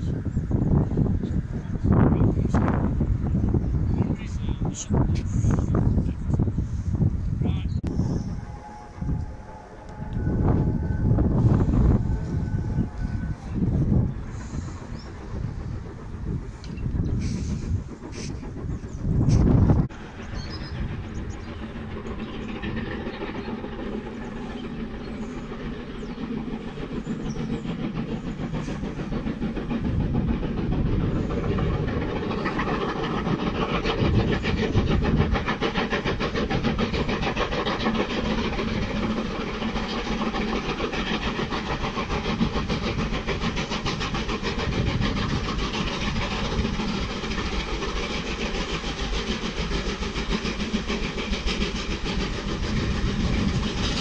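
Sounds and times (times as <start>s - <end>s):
steam locomotive exhaust beating: 0.0s - 54.0s
steam hissing: 7.9s - 54.0s.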